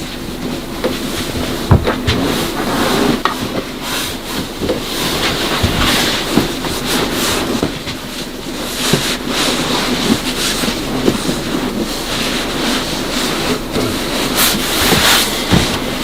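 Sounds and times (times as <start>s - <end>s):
clothing rustling: 0.0s - 16.0s.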